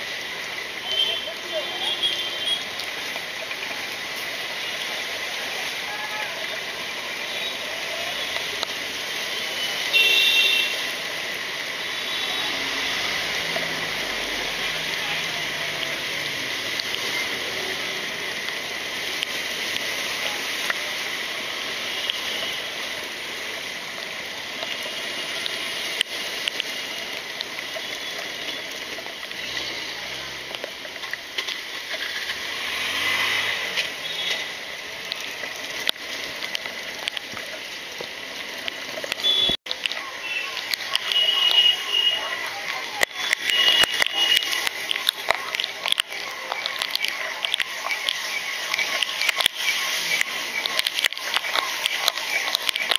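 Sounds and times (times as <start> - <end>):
heavy rain hissing: 0.0 - 52.9
wheels churning water: 0.0 - 52.9.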